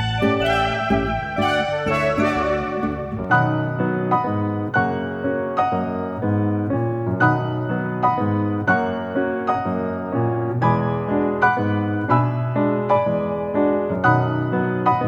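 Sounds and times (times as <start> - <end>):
slow gentle solo piano: 2.8 - 15.0.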